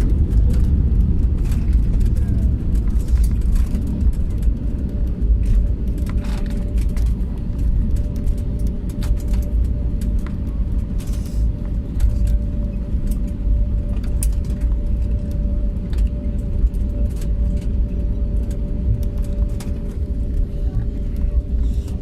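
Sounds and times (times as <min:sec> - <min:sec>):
airliner cabin rumble: 0:00.0 - 0:22.0
constant hum: 0:00.0 - 0:22.0.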